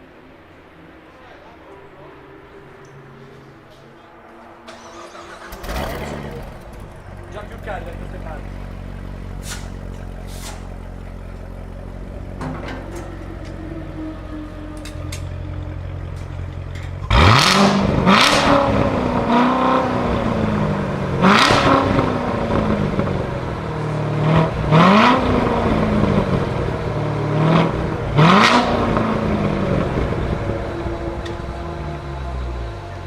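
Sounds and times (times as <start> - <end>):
sharp exhaust cracks: 1.7 - 33.0
sports car engine revving: 1.8 - 33.0.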